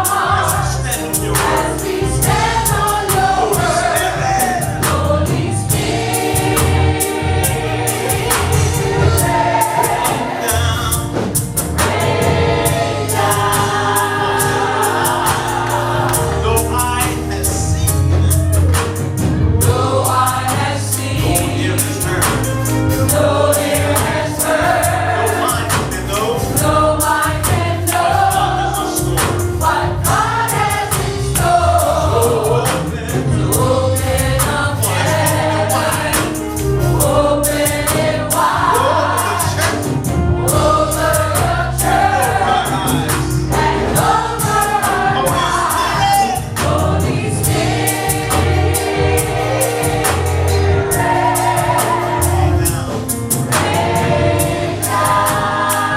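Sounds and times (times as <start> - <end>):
bass and drums: 0.0 - 55.9
choir singing: 0.0 - 55.9.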